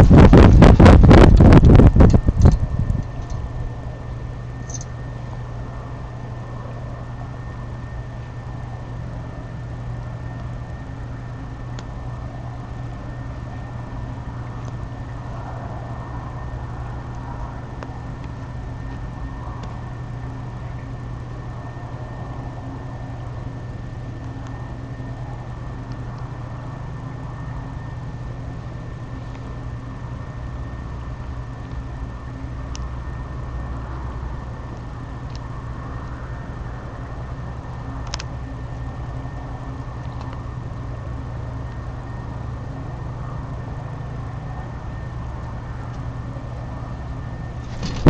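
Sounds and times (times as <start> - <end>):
high-pitched whine: 0.0 - 48.0
low hum and hiss: 0.0 - 48.0.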